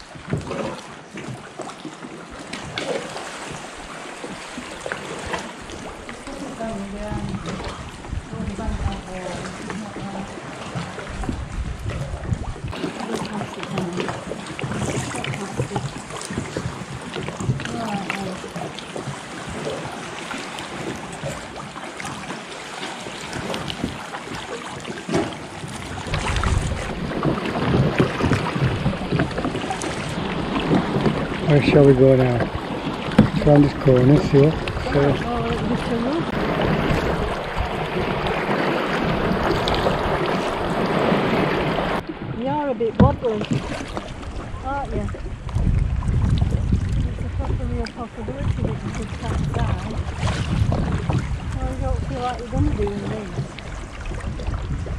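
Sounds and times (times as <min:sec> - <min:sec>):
water lapping around a kayak: 0:00.0 - 0:54.9
wind rumble on microphone: 0:05.1 - 0:20.0, 0:23.2 - 0:54.9.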